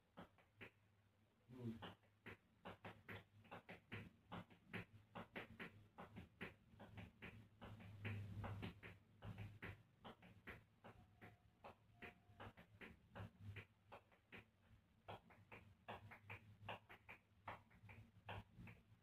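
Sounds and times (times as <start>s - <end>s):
tap shoes on tiled floor: 1.6s - 19.0s.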